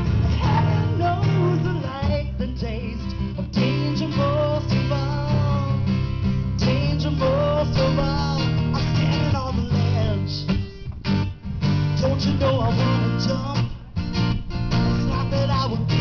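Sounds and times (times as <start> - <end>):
bending guitar melody: 0.0 - 16.0
guitars strumming chords: 0.0 - 16.0.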